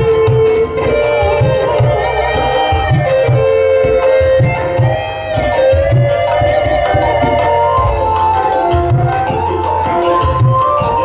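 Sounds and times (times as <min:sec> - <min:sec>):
electronic keyboard chords: 0:00.0 - 0:11.0
hand drums beating: 0:00.0 - 0:11.0.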